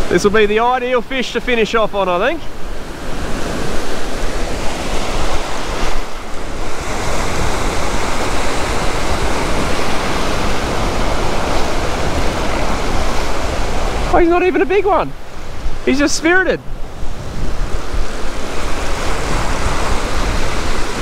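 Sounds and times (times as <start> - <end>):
surf washing over sand: 0.0 - 21.0
wind rumbling on microphone: 1.9 - 21.0.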